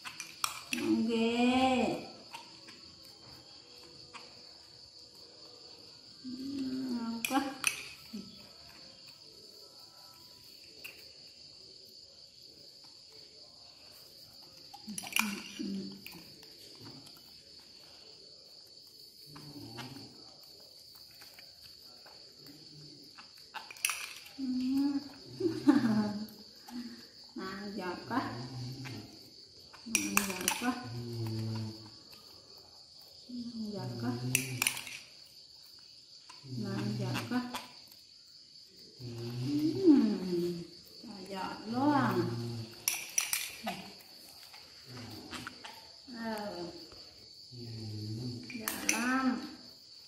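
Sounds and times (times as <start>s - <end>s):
crickets chirring: 0.0s - 50.0s.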